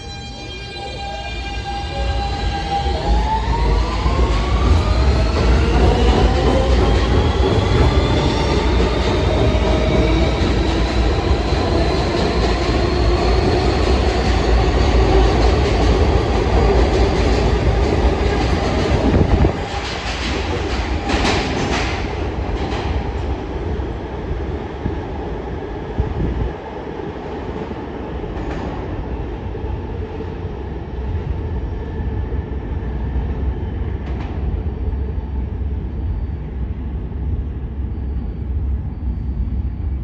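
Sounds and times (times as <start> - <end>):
subway train rumble: 0.0 - 40.0.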